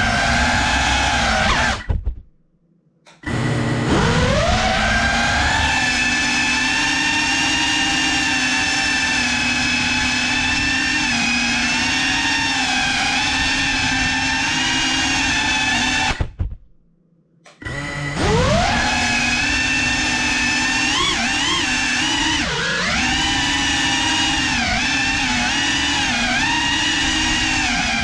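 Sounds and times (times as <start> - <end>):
drone motors whining: 0.0 - 2.2, 3.1 - 16.5, 17.5 - 28.0.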